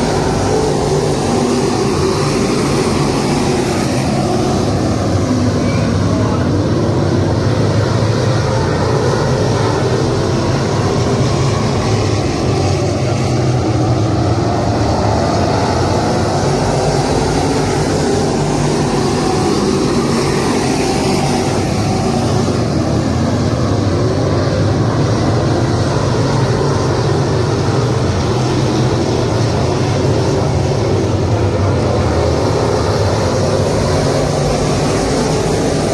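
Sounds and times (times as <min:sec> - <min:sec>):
race car engines droning: 0:00.0 - 0:35.9.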